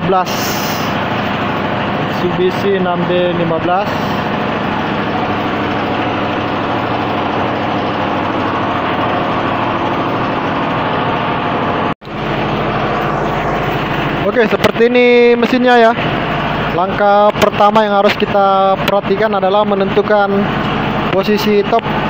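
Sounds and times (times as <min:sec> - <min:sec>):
generator engine droning: 0:00.0 - 0:22.0.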